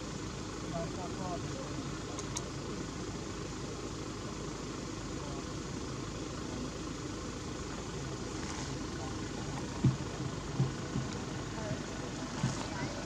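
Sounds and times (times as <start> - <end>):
low mechanical rumble with hiss: 0.0 - 13.0.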